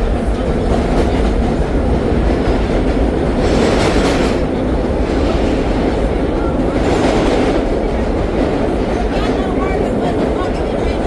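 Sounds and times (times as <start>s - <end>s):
subway train rumbling on tracks: 0.0s - 11.0s.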